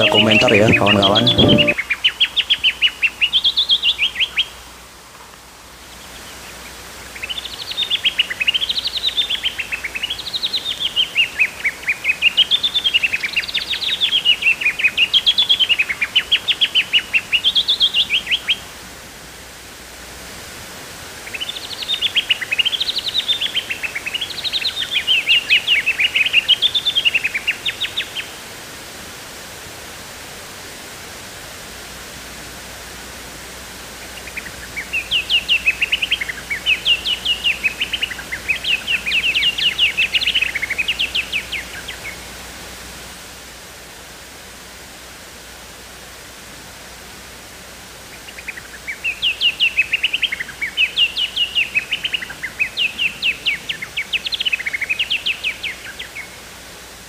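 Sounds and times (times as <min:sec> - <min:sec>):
faint background hiss: 0:00.0 - 0:57.0.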